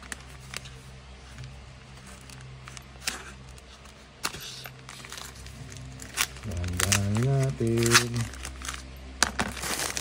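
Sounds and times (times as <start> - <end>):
low steady hum: 0.0 - 10.0
packaging rustling: 0.0 - 10.0.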